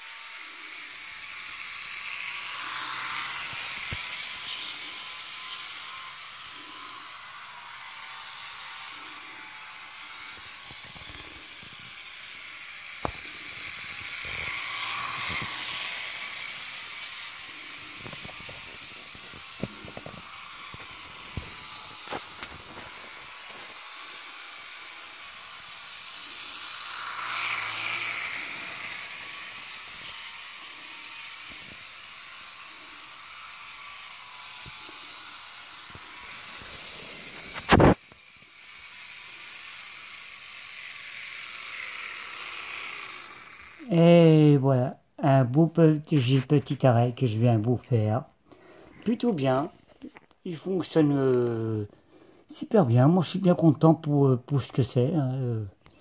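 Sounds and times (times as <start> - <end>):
model train motor whirring: 0.0 - 44.6, 45.4 - 56.0.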